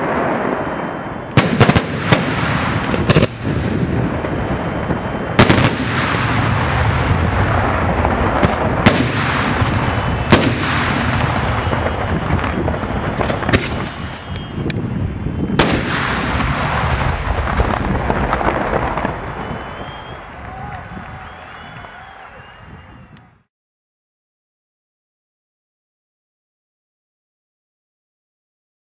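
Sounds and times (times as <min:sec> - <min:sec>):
firework bangs: 0:00.0 - 0:23.5
rumble of explosions: 0:00.0 - 0:23.5.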